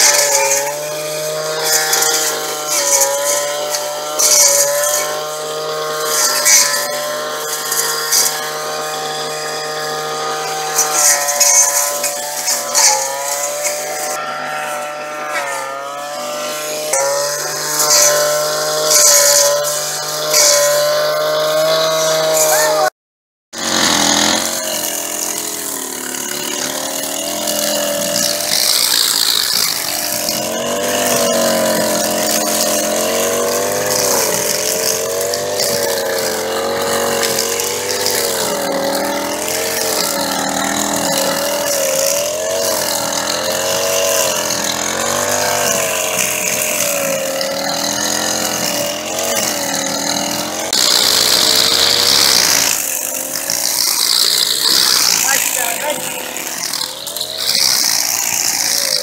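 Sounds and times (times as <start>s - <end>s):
string trimmer engine cutting grass: 0.0s - 22.9s, 23.5s - 59.0s.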